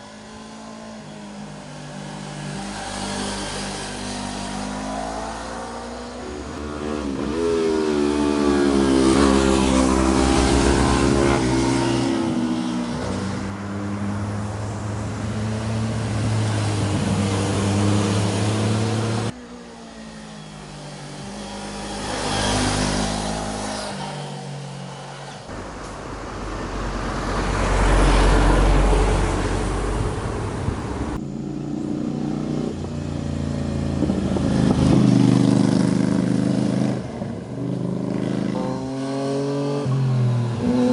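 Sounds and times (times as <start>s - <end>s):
motorcycle engines revving past: 0.0s - 25.5s, 27.0s - 40.9s.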